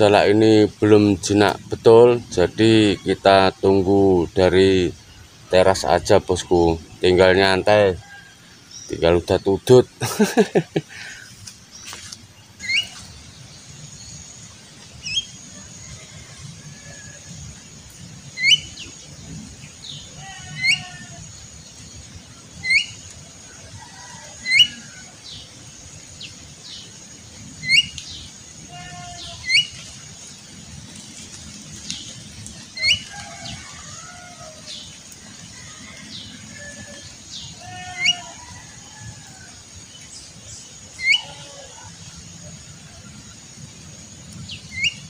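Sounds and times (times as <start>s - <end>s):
myna bird chirping: 0.0s - 45.0s.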